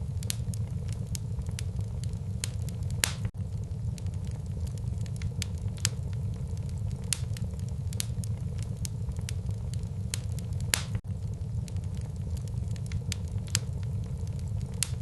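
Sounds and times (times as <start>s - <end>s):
fire flames rumbling: 0.0s - 15.0s
wood fire crackling and popping: 0.0s - 15.0s.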